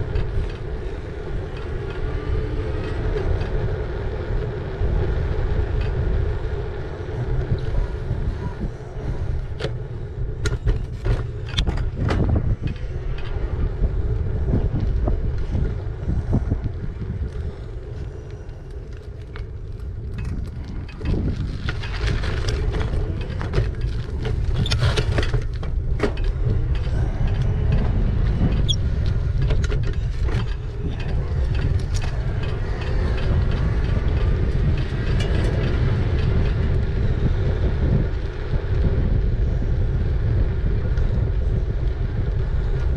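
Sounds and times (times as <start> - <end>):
bike clicks and rattles: 0.0 - 42.9
tyre noise: 0.0 - 42.9
wind on microphone: 0.0 - 42.9.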